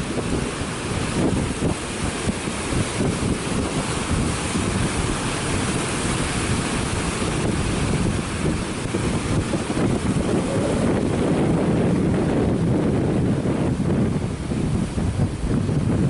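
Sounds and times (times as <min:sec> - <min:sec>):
sea surf breaking over rocks: 0:00.0 - 0:16.0
wind buffeting microphone: 0:00.0 - 0:16.0.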